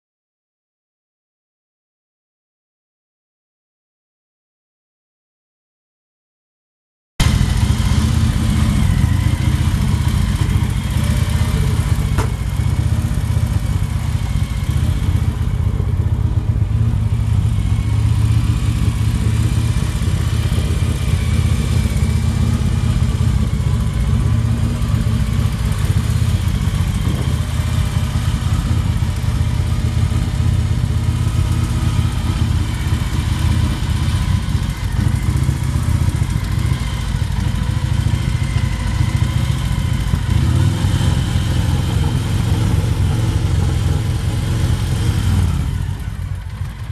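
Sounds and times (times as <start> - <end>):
motorcycle engine idling: 7.2 - 46.9.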